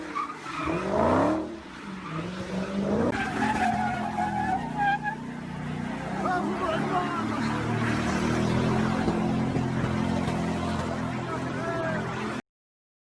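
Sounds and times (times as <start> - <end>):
high-pitched tyre squeal: 0.0 - 12.3
car engine revving: 0.0 - 12.4.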